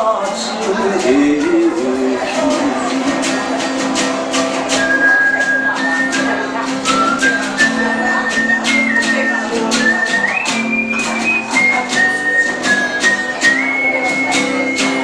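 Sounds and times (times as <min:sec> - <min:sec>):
high held melody: 0:00.0 - 0:15.0
strummed guitar: 0:00.0 - 0:15.0.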